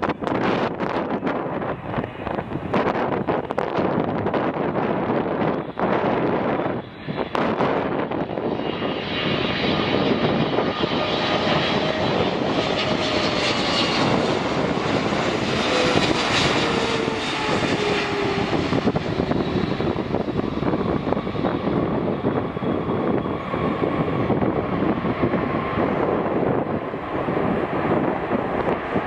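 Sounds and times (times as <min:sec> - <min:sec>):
jet airliner engines passing: 0:00.0 - 0:29.0.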